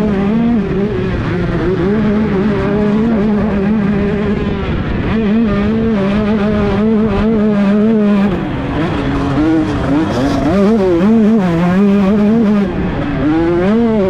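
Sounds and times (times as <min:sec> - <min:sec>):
dirt bike engine screaming: 0:00.0 - 0:14.0.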